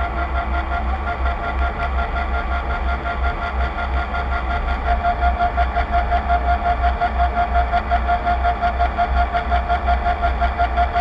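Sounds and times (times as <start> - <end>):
drive motor whine: 0.0 - 11.0.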